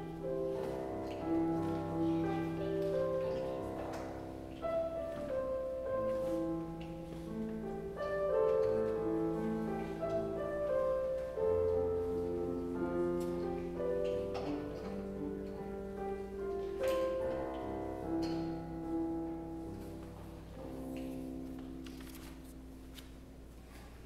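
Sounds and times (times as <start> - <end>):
slow keyboard music: 0.0 - 24.0.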